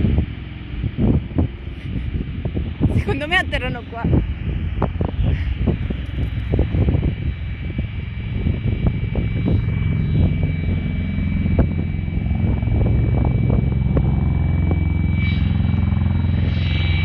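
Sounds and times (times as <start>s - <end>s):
rotors beating with low throb: 0.0s - 17.0s.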